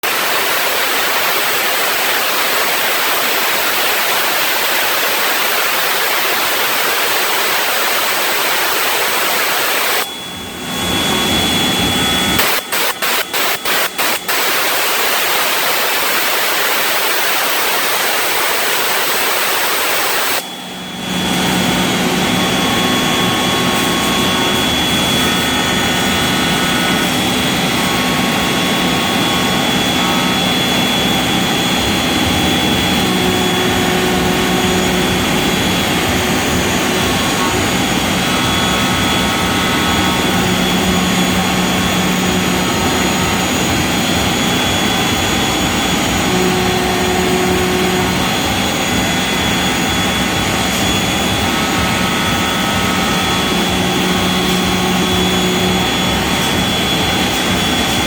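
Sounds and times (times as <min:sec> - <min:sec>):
high whine: 0:00.0 - 0:58.0
router bit cutting panel: 0:00.0 - 0:58.0.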